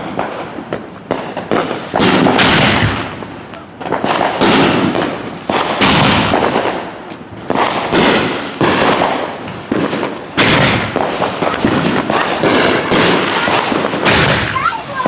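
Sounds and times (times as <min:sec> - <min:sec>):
firework cake bangs: 0:00.0 - 0:15.0.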